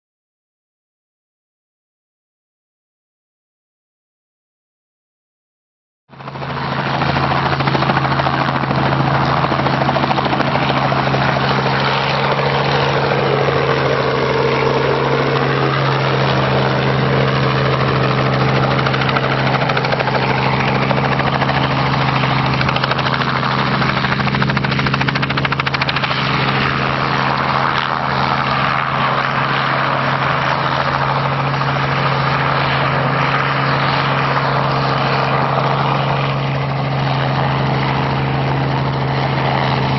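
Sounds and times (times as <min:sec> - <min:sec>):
helicopter engine and rotor drone: 0:06.1 - 0:39.9.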